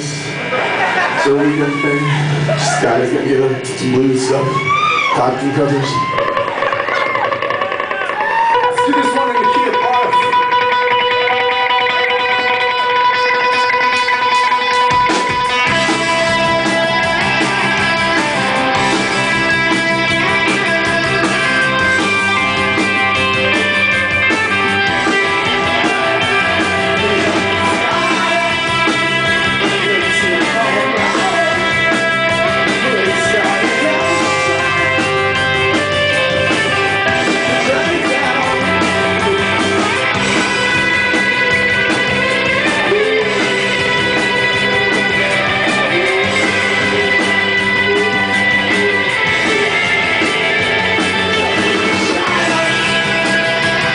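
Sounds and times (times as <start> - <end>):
rock band playing live: 0.0 - 53.9.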